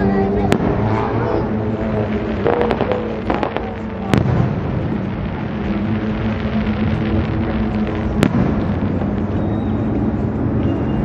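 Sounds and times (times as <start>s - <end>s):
fireworks crackling pops: 0.0s - 11.0s
low hum: 0.0s - 11.0s
firework bang: 0.4s - 11.0s.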